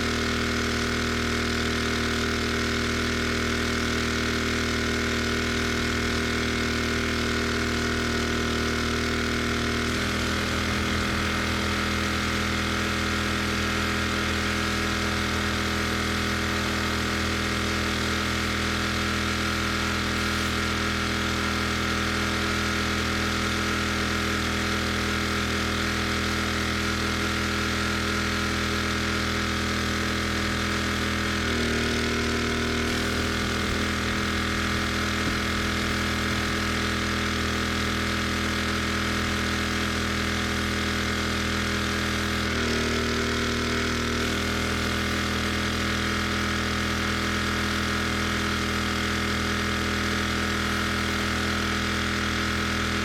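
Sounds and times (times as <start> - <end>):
pressure washer engine running: 0.0 - 53.0.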